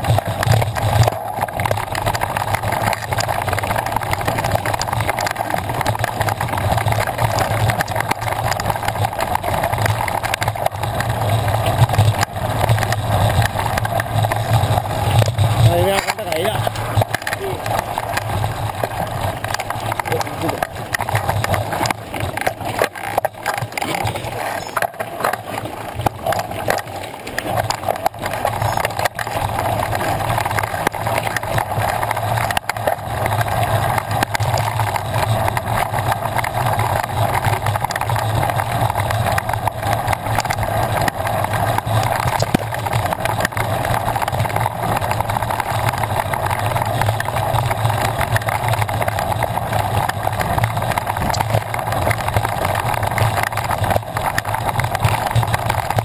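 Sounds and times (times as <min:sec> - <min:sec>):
bike rattling and knocking: 0:00.0 - 0:56.0
bike tyre rumbling on gravel: 0:00.0 - 0:56.0.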